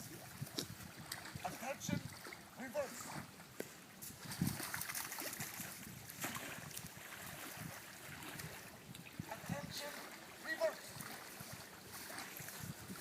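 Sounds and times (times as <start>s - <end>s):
lake water lapping and splashing: 0.0s - 13.0s.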